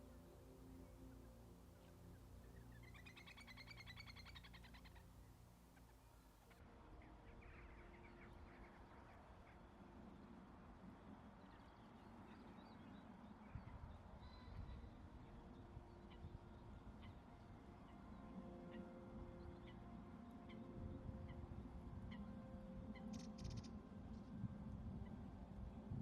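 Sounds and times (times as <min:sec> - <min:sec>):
music: 0:00.0 - 0:26.0.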